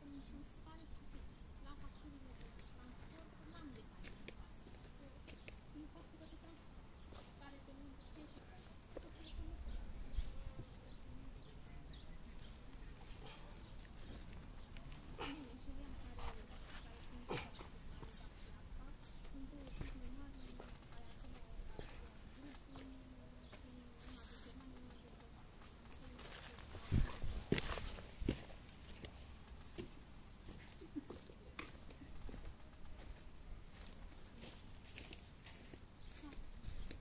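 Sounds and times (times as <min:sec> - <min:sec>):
insect chirping: 0:00.0 - 0:37.0.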